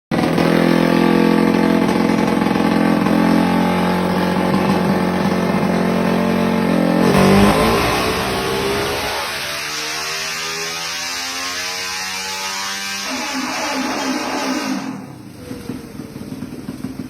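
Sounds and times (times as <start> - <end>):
motorcycle engine revving high: 0.1 - 17.0.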